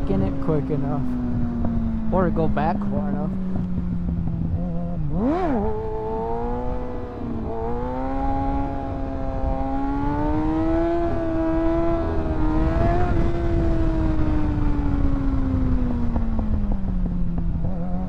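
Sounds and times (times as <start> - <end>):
motorcycle engine revving: 0.0 - 18.0
wind rushing past microphone: 0.0 - 18.0.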